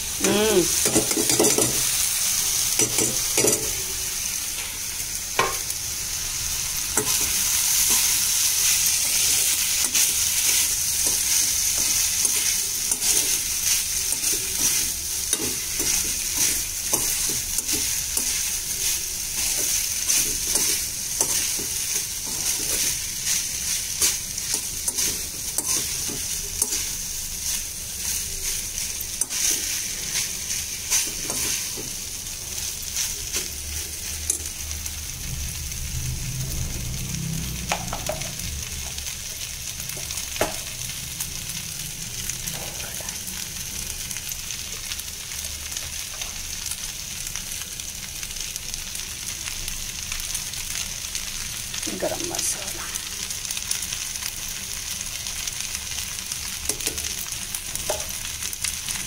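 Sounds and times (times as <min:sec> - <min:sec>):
rice and vegetables sizzling: 0:00.0 - 0:59.0.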